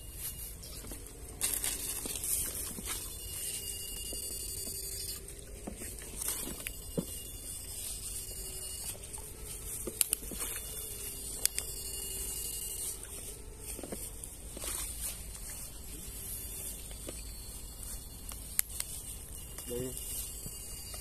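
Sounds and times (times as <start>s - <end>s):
high electrical whine: 0.0s - 21.0s.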